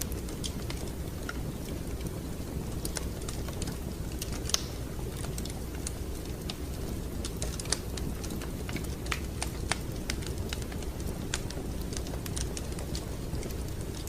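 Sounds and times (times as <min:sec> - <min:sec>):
fire snapping and popping: 0:00.0 - 0:14.0
low rumble of fire: 0:00.0 - 0:14.0.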